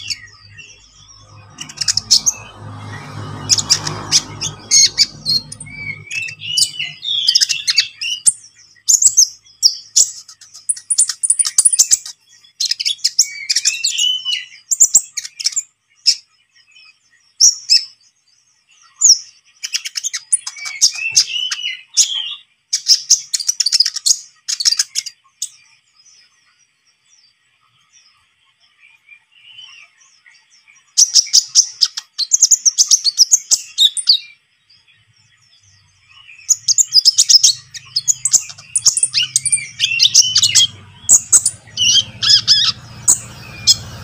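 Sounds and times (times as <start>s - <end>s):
bird twittering and trilling: 0.0s - 44.0s.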